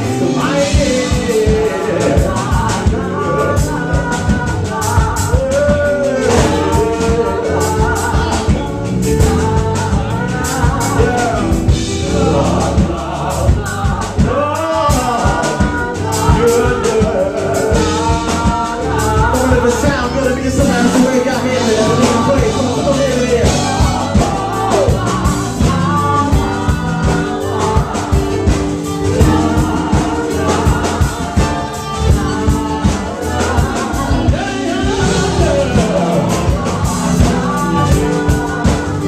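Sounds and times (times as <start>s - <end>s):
drum kit beating: 0.0s - 39.0s
keyboard: 0.0s - 39.0s
man singing into a microphone: 0.0s - 39.0s.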